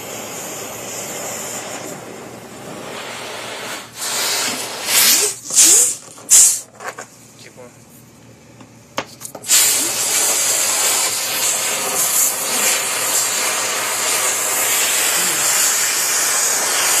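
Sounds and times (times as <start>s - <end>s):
rushing air hiss: 0.0s - 6.7s, 9.4s - 17.0s.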